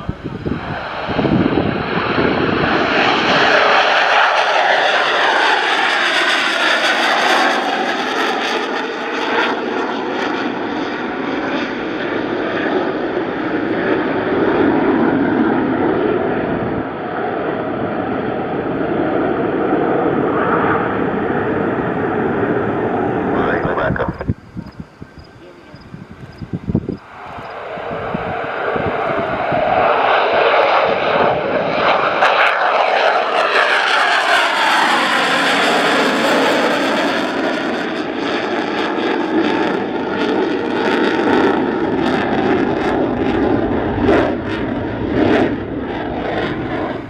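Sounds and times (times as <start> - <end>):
aircraft engines roaring: 0.0 - 47.0.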